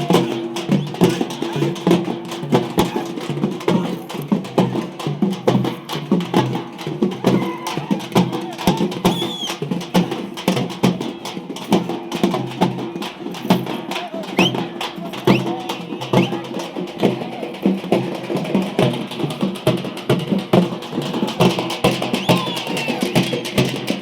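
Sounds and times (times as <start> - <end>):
drums beaten fast: 0.0 - 24.0.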